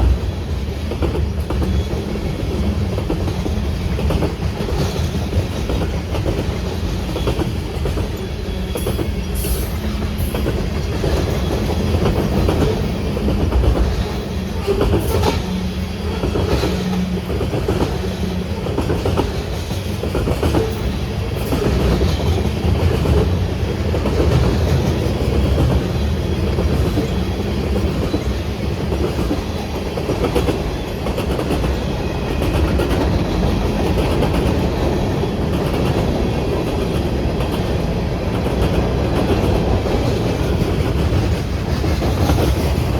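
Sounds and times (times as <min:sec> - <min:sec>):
train wheels rumbling on rails: 0:00.0 - 0:42.9
wheels clicking on rails: 0:00.0 - 0:42.9.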